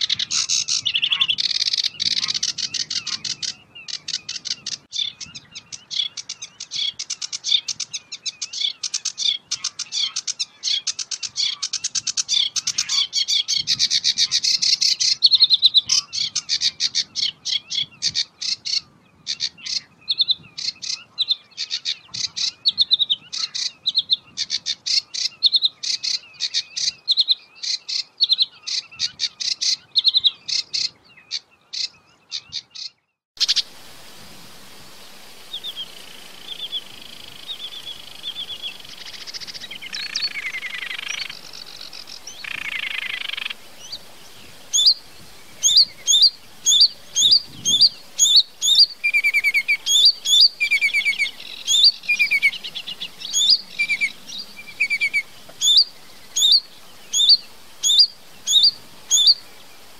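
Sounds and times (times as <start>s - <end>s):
warbler singing chattering song: 0.0s - 33.7s, 34.9s - 59.9s.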